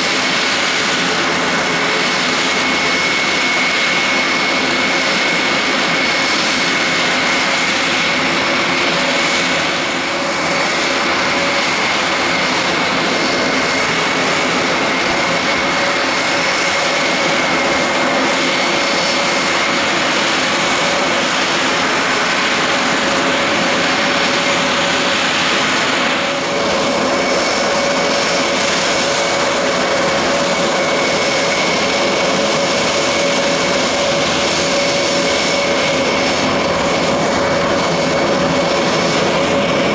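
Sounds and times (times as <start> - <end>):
aircraft engine running: 0.0 - 39.9.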